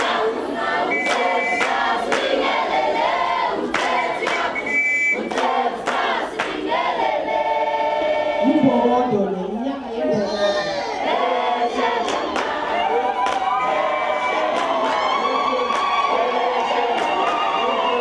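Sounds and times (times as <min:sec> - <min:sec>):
choir of young voices singing: 0:00.0 - 0:09.2, 0:10.4 - 0:18.0.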